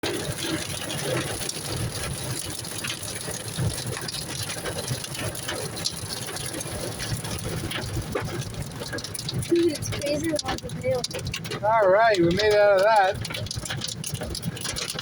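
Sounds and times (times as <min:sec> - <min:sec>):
car driving rumble: 0:00.0 - 0:15.0
hail pelting a car roof: 0:00.0 - 0:15.0.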